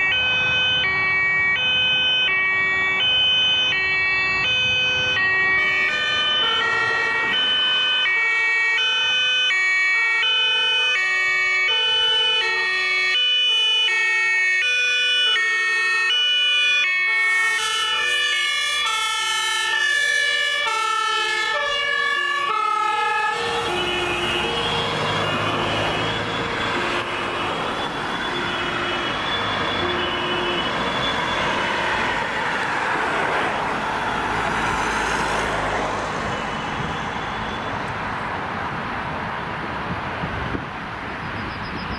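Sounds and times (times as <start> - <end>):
two-tone emergency sirens: 0.0 - 38.2
vehicles passing close by: 0.0 - 41.9.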